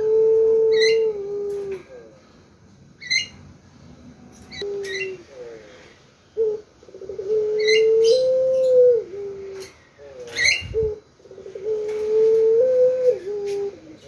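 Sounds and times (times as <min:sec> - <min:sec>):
dove cooing: 0:00.0 - 0:02.4, 0:04.5 - 0:14.0.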